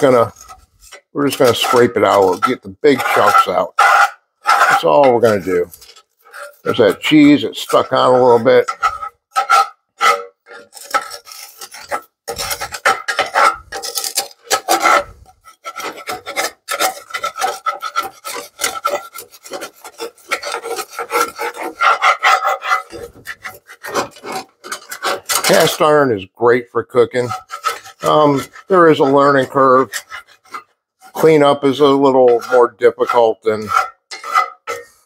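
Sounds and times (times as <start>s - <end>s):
wooden spatula scraping a skillet: 0.0s - 35.0s.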